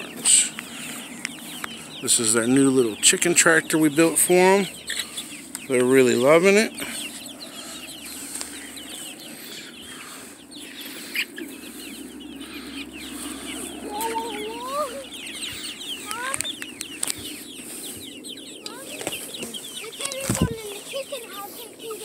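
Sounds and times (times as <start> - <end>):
chickens clucking and cheeping: 0.0 - 22.0.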